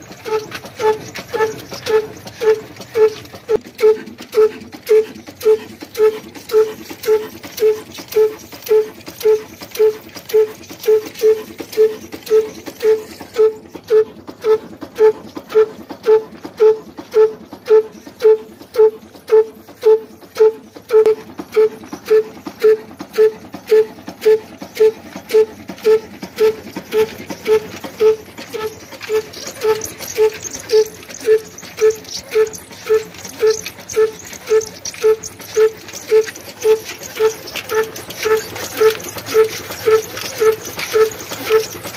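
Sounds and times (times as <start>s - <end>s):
diesel engine exhaust beats: 0.0s - 41.9s.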